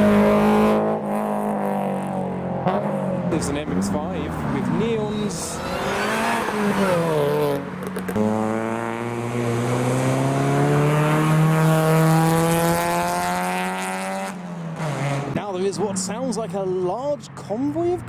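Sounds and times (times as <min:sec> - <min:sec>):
engine passing by: 0:00.0 - 0:16.9
car engine revving: 0:00.0 - 0:18.0.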